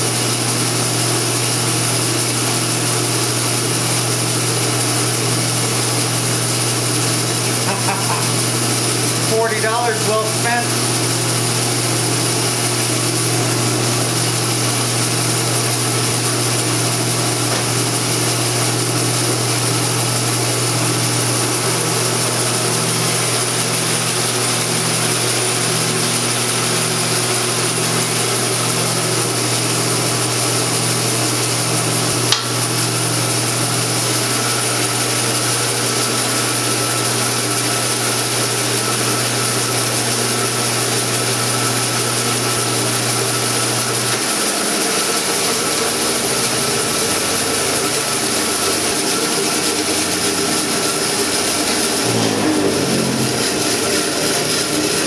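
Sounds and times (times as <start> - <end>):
bandsaw motor humming: 0.0 - 55.0.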